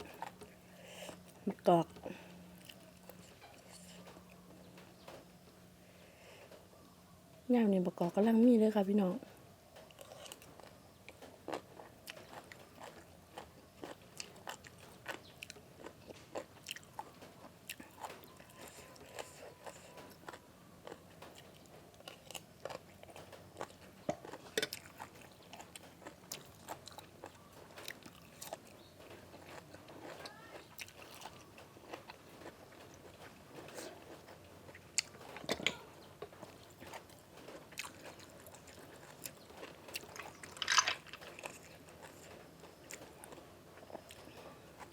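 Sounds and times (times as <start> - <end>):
person chewing crunchy food: 0.0 - 4.4, 9.8 - 44.9.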